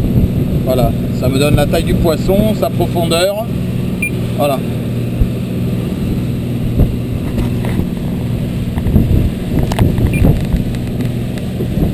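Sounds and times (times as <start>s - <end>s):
motorboat engine humming: 0.0s - 11.9s.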